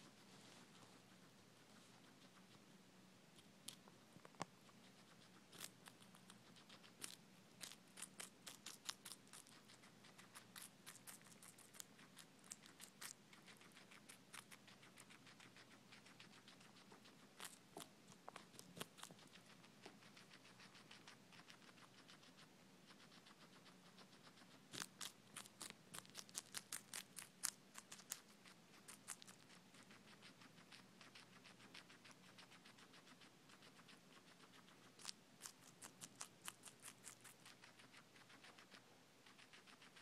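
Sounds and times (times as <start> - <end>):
guinea pig crunching vegetable: 0.0 - 40.0.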